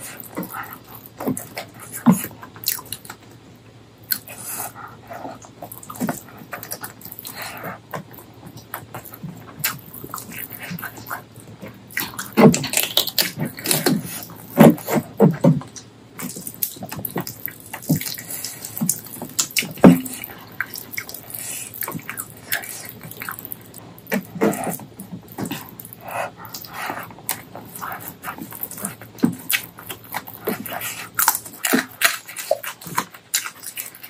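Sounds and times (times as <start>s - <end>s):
chewing and wet lip smacking: 0.0s - 34.0s.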